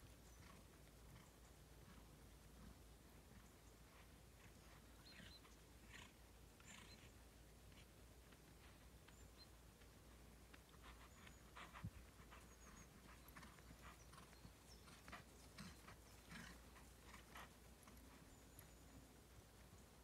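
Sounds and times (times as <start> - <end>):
horse hoofbeats on grass: 0.0 - 20.0.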